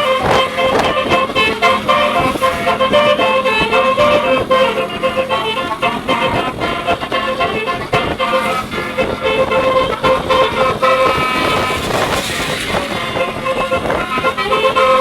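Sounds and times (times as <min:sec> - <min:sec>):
bus horn playing melody: 0:00.0 - 0:15.0.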